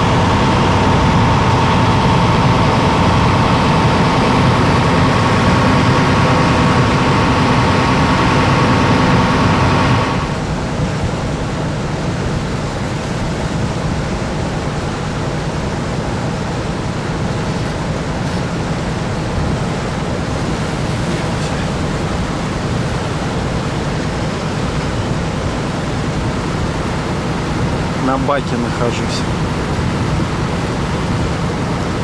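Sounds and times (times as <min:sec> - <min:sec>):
wind on microphone: 0:00.0 - 0:28.1, 0:28.8 - 0:32.0
low engine drone: 0:00.0 - 0:32.0
water along boat hull: 0:00.0 - 0:32.0.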